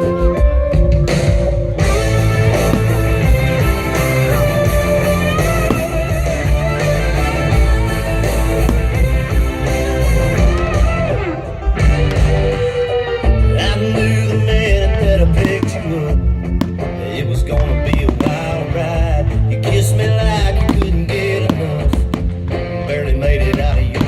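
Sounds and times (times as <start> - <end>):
guitar-led rock music: 0.0 - 24.0.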